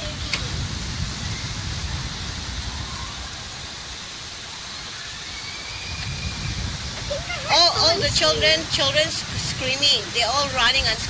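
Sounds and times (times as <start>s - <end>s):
heavy rain pouring: 0.0s - 11.0s
low uneven rumble: 0.0s - 11.0s.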